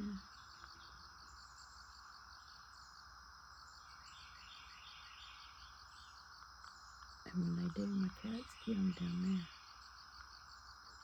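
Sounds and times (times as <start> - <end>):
insects trilling: 0.0 - 11.0
small birds chirping: 0.0 - 11.0.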